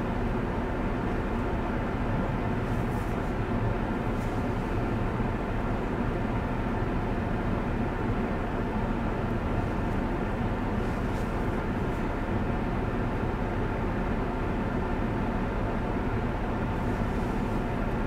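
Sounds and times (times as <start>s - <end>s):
car tyre and engine noise: 0.0s - 18.0s.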